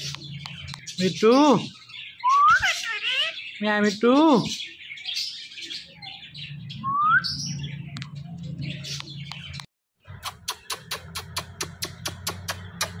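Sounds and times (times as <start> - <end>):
parakeet chirping and chattering: 0.0 - 13.0.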